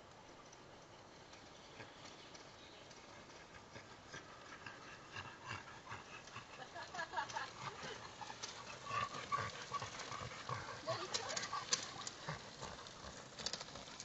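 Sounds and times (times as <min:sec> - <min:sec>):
bicycles on gravel: 0:00.0 - 0:14.0.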